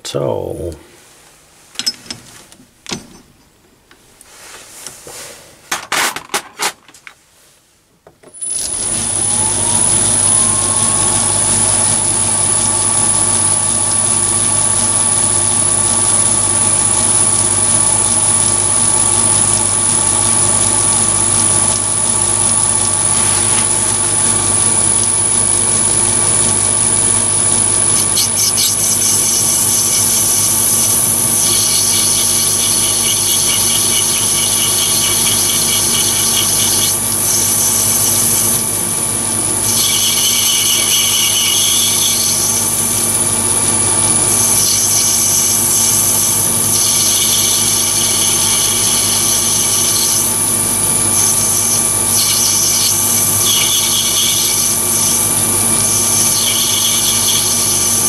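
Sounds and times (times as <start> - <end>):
lathe motor whine: 8.4 - 58.0.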